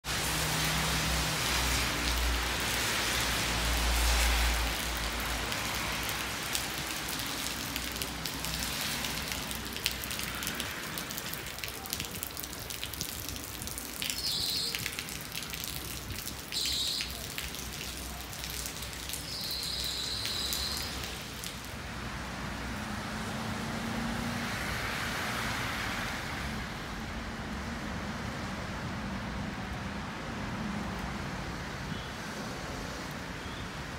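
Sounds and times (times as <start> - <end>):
wet snow pattering and dripping: 0.0 - 23.3, 24.3 - 33.9
traffic hissing on wet roads: 0.0 - 33.9.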